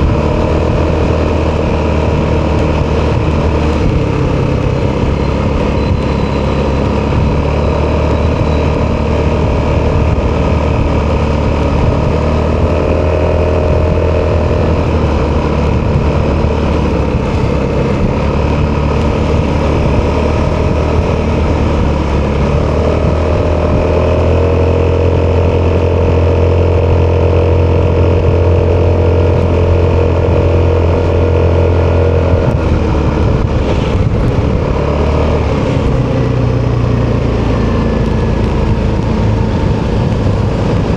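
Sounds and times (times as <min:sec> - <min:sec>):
scooter engine running: 0:00.0 - 0:40.9.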